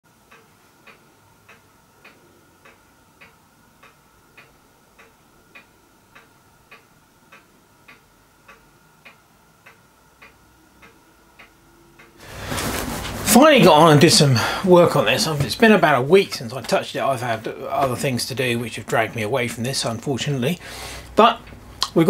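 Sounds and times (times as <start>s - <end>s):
faint high hum: 0.1s - 22.0s.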